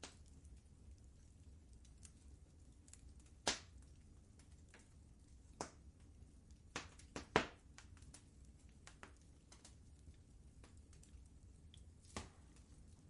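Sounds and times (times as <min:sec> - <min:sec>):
low fire rumble: 0:00.0 - 0:13.0
wood fire popping: 0:00.0 - 0:13.0.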